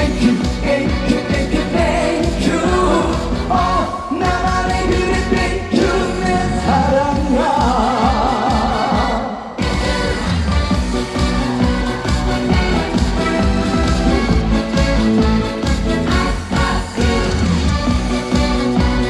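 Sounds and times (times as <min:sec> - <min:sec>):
person singing: 0:00.0 - 0:19.0
upbeat band backing: 0:00.0 - 0:19.0.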